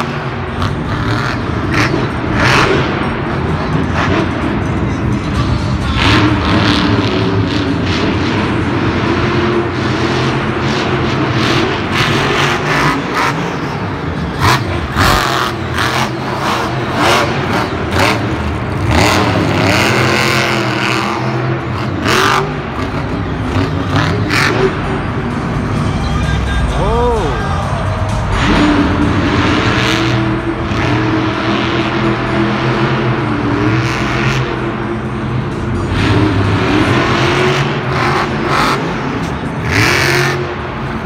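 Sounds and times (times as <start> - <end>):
monster truck engine revving: 0.0 - 41.0.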